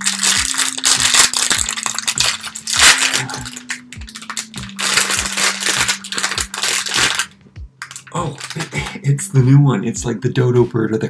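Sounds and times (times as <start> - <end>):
foil bag crinkling: 0.0 - 9.0
background music: 0.0 - 11.0.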